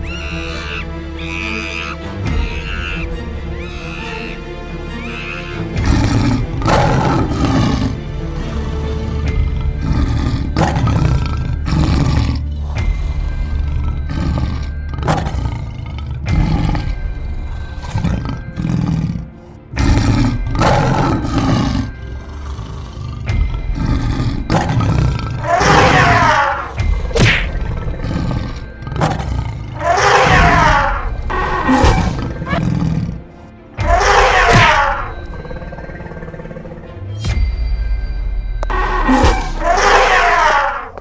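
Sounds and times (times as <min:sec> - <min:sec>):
background music: 0:00.0 - 0:41.0
animal roaring: 0:05.0 - 0:37.1, 0:38.7 - 0:41.0.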